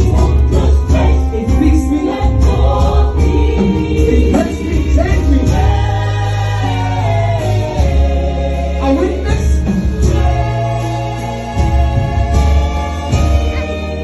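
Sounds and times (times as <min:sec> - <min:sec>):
choir singing gospel music: 0:00.0 - 0:14.0
steady bass line: 0:00.0 - 0:14.0.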